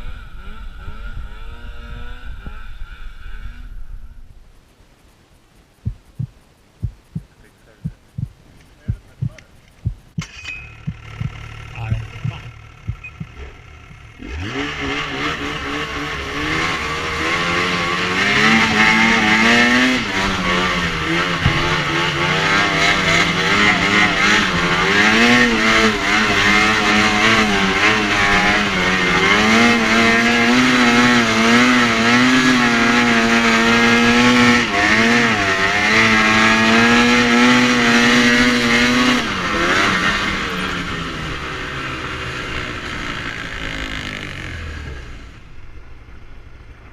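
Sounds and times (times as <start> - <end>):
snowmobile engine revving: 0.0 - 4.2, 10.7 - 46.9.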